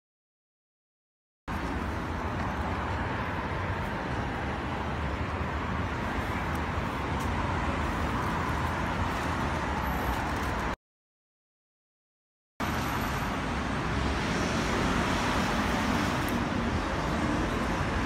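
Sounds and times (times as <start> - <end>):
city traffic rumble: 1.5 - 10.8, 12.6 - 18.0.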